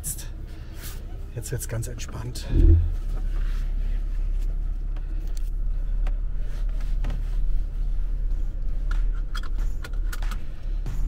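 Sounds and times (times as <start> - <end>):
engine and drivetrain rumble: 0.0 - 11.0
body and interior rattles: 0.3 - 11.0.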